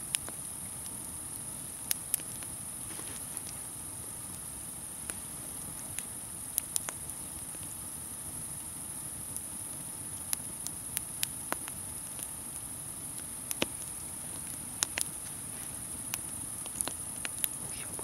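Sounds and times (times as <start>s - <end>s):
campfire crackling and popping: 0.0s - 18.0s
high-pitched hiss: 0.0s - 18.0s.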